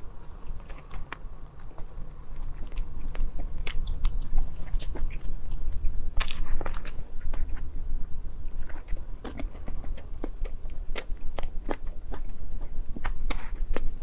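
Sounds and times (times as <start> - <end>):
chewing crunchy pastry: 0.0 - 14.0.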